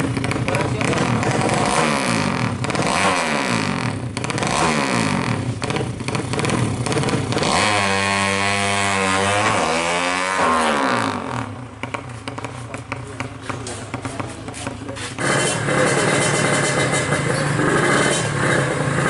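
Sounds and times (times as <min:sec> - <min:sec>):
racing motorcycle engine: 0:00.0 - 0:19.0.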